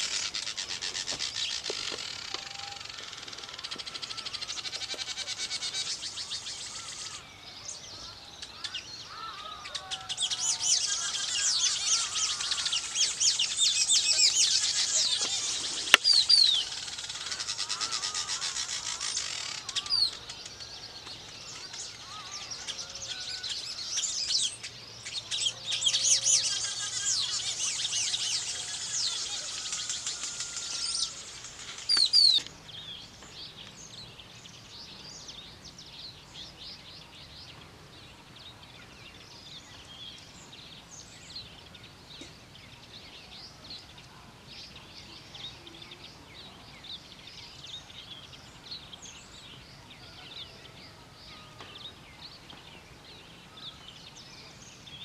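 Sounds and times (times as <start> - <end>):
small birds chirping: 0.0 - 55.0
soft outdoor hiss: 0.0 - 55.0
weaver birds chattering: 0.0 - 55.0.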